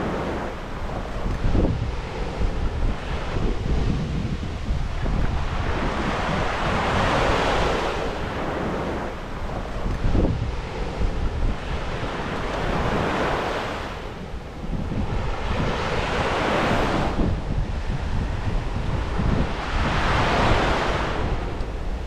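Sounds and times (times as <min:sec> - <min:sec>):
waves washing in: 0:00.0 - 0:22.0
wind buffeting microphone: 0:00.0 - 0:22.0.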